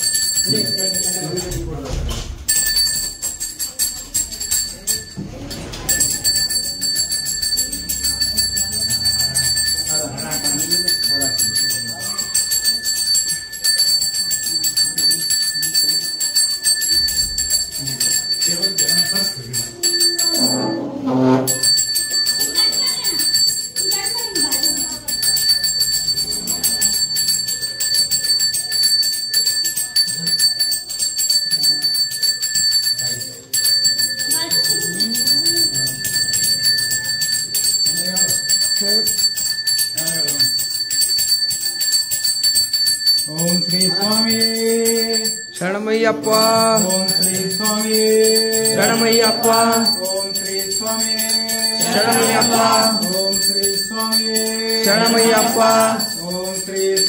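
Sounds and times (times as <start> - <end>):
hand bell ringing rapidly: 0.0 - 1.8, 2.4 - 20.8, 21.5 - 45.6, 46.2 - 57.0.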